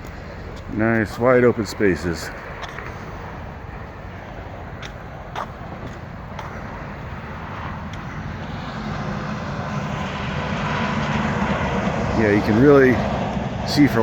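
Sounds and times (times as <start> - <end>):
distant vehicle traffic: 0.0 - 14.0.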